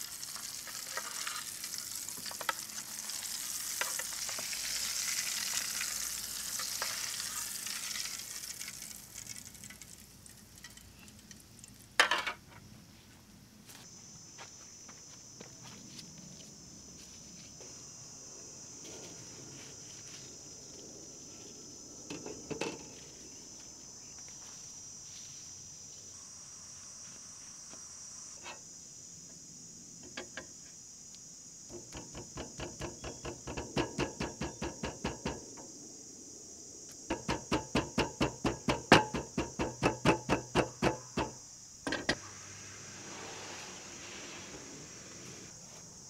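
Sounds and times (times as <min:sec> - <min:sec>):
insects buzzing: 0:00.0 - 0:46.0.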